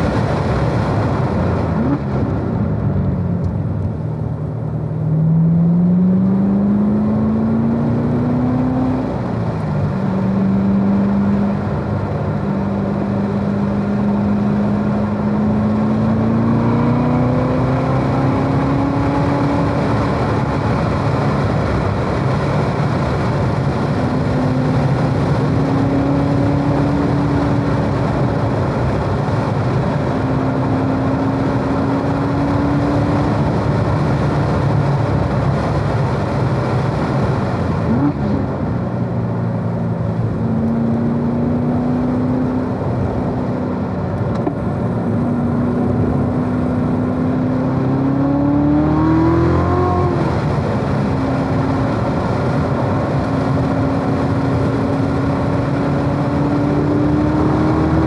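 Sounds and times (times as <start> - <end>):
car engine revving: 3.8 - 58.0.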